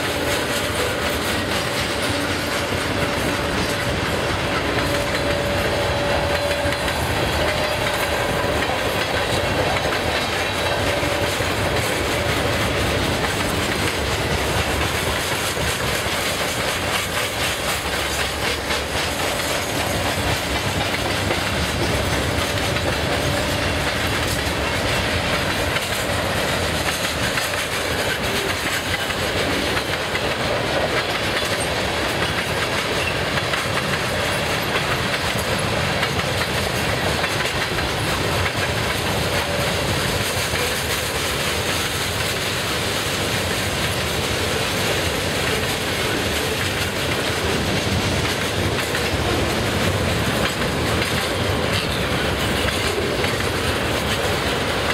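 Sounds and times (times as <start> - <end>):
freight train wheels clacking: 0.0 - 54.9.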